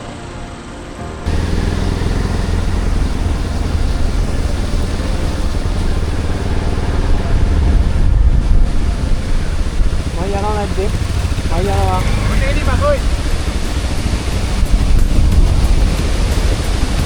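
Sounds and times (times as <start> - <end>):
road noise: 0.0 - 17.0
motorcycle engine rumbling: 1.3 - 17.0.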